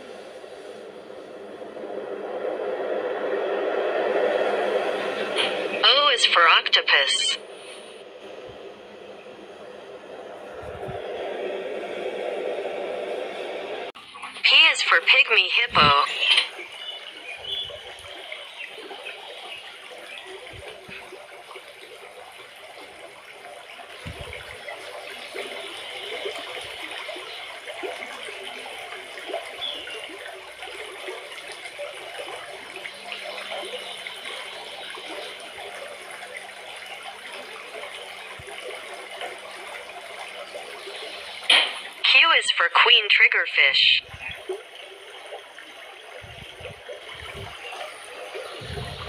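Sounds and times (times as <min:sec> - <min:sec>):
water trickling and lapping: 0:00.0 - 0:49.0.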